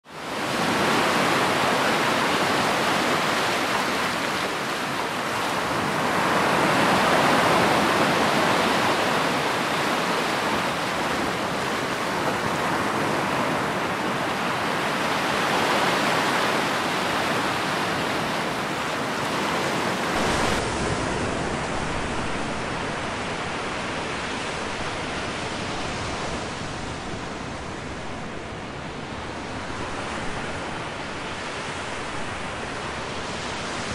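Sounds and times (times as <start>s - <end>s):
ocean waves breaking: 0.1s - 33.9s.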